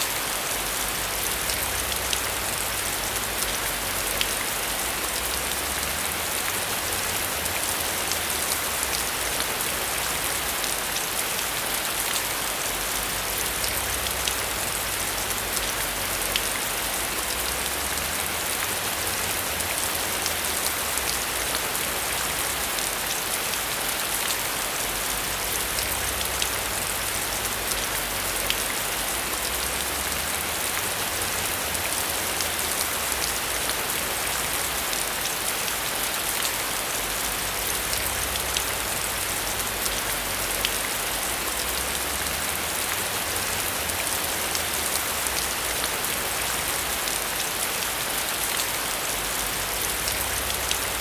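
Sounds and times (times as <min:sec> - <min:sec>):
heavy rain on a metal roof: 0:00.0 - 0:51.0.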